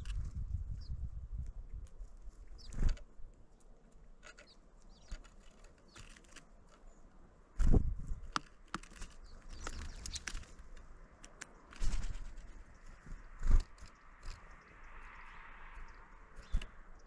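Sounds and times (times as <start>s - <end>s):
birds pecking and tapping: 0.0s - 17.0s
wing flutter: 0.0s - 17.0s.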